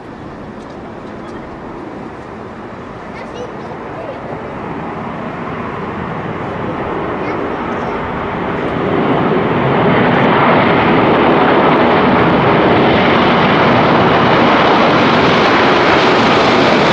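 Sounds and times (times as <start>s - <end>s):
jet engines at takeoff thrust: 0.0s - 16.9s.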